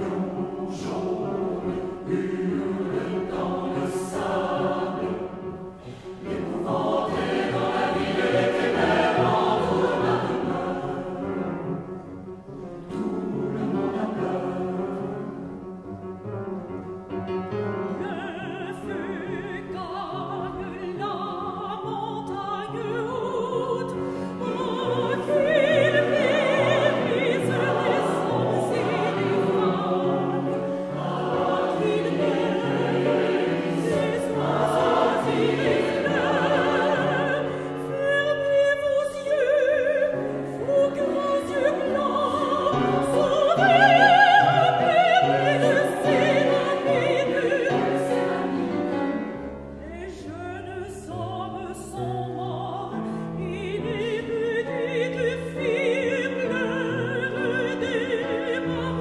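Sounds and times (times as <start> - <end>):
mixed choir singing: 0.0 - 12.1, 12.7 - 15.8, 18.0 - 50.2, 51.4 - 59.0.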